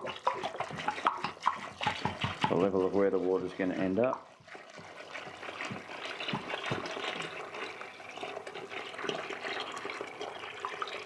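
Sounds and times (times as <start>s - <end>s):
water pouring into drum: 0.0s - 11.0s.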